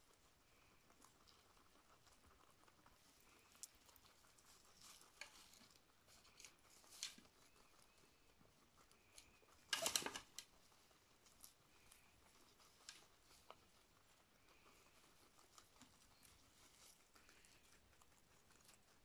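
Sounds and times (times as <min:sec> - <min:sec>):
rabbit chewing grass: 0:00.0 - 0:19.0.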